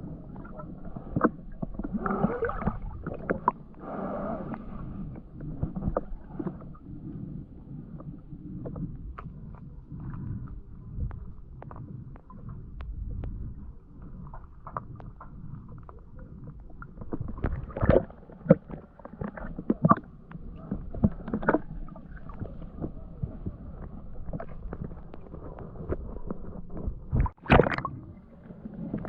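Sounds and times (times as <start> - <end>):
muffled rumbling water: 0.0 - 29.0.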